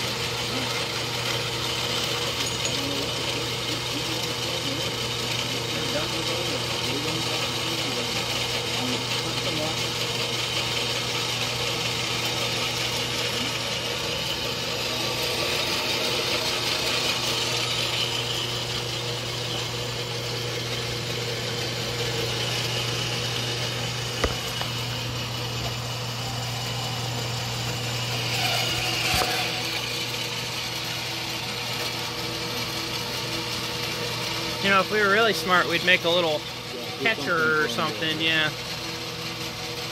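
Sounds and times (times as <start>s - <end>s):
band saw cutting metal: 0.0s - 39.9s.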